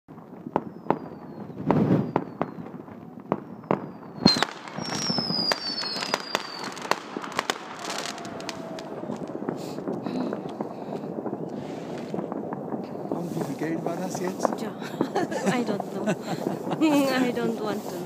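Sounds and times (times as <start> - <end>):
fireworks bangs and crackling: 0.1 - 18.0
whistling rockets: 0.4 - 15.2.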